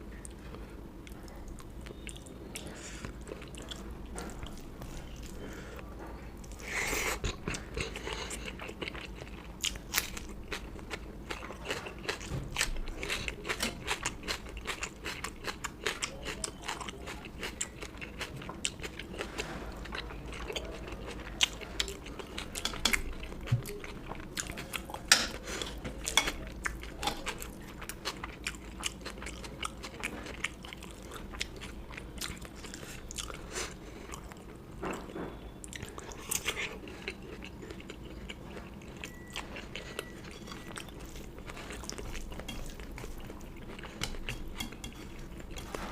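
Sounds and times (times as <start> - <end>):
person chewing crunchy food: 0.1 - 45.9.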